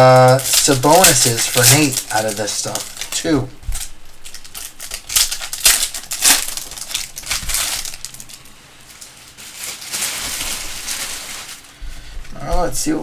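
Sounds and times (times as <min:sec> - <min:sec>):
plastic wrap and cardboard tearing: 0:00.0 - 0:11.8.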